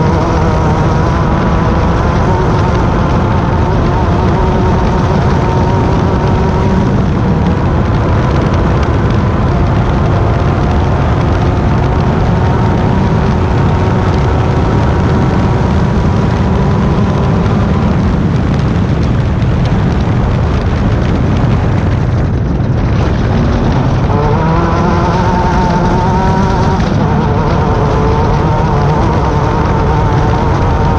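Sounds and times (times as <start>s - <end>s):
race car engine at high revs: 0.0s - 30.9s.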